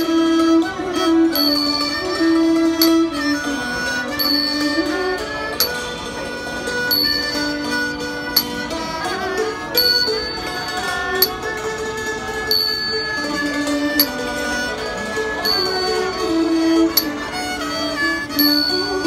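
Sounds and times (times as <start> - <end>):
bright metal percussion strokes: 0.0 - 19.0
ensemble melody of held notes: 0.0 - 19.0.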